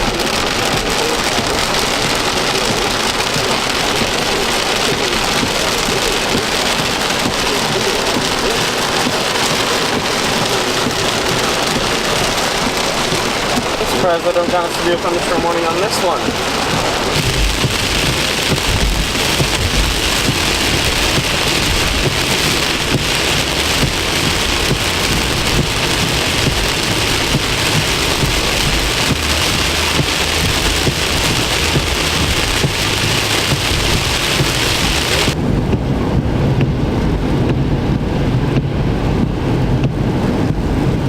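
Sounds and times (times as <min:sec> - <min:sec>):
heavy rain on a vehicle: 0:00.0 - 0:41.0
low rumble: 0:00.0 - 0:41.0.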